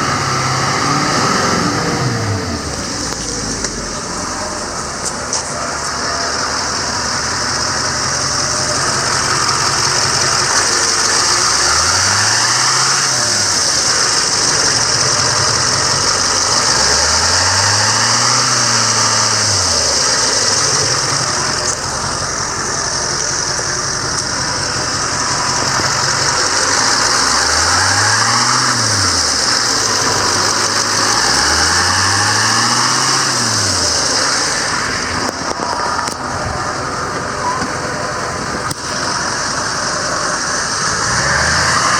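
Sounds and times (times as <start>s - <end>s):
diesel engine idling: 0.0s - 41.9s
loud steady hiss: 0.0s - 41.9s.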